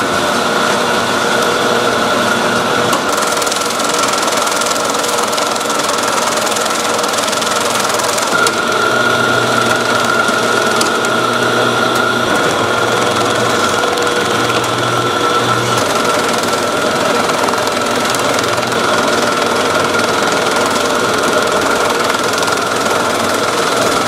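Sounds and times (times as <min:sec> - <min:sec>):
machinery whine and rattle: 0:00.0 - 0:24.0.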